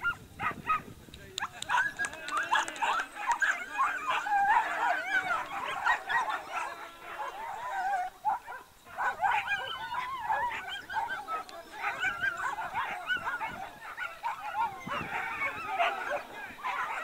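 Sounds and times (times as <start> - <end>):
dogs yelping and whining: 3.2 - 17.0.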